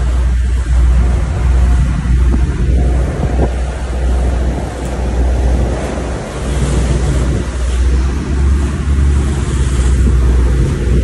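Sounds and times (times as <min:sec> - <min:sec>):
boat engine rumble: 0:00.0 - 0:11.0
sea water rushing and churning: 0:00.0 - 0:11.0
wind on microphone: 0:00.0 - 0:11.0.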